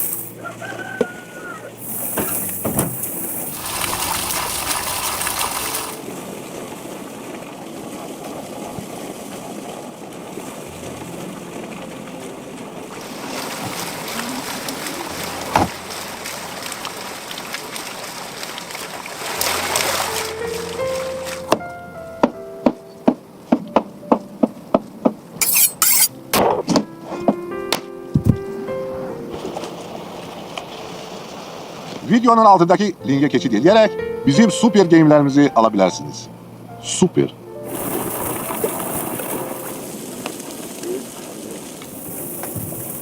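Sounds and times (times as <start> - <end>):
water splashing and trickling: 0.0 - 21.9, 29.2 - 35.9, 36.9 - 43.0.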